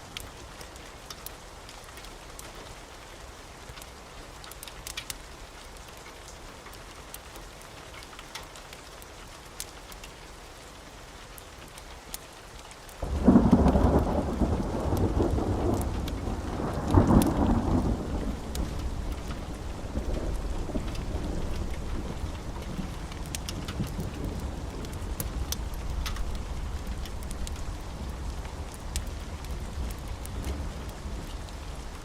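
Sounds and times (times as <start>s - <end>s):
wood fire crackling: 3.7s - 10.6s, 11.2s - 32.0s.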